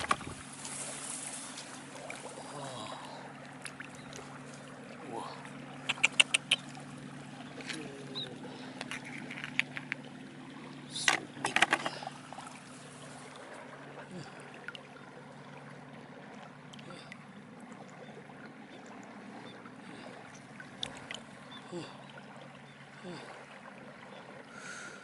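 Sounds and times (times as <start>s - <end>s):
flowing water: 0.0s - 25.0s
steady low hum: 0.0s - 25.0s.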